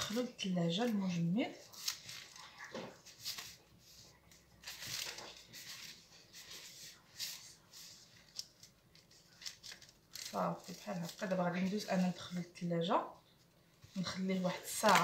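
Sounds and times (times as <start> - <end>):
cling film rustling: 0.0 - 12.3, 14.0 - 15.0.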